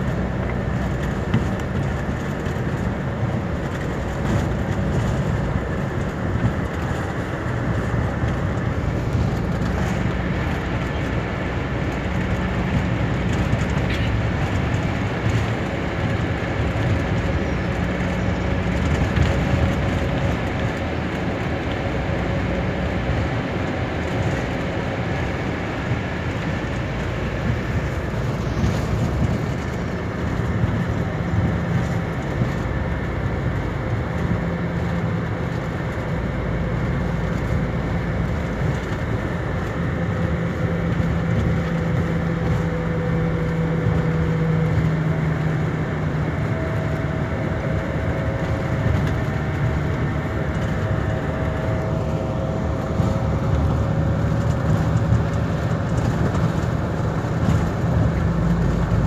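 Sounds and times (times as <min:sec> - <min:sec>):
bus engine hum: 0:00.0 - 0:59.0
road and tyre noise: 0:00.0 - 0:59.0.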